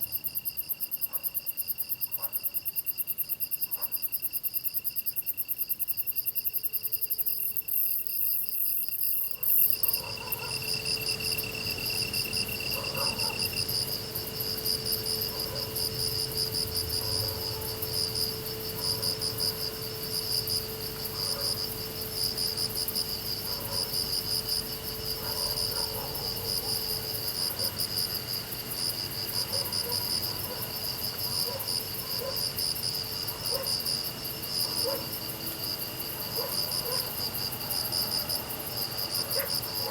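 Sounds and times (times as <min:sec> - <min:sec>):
insects trilling: 0:00.0 - 0:39.9
rapid pulsed cricket chirps: 0:00.0 - 0:39.9.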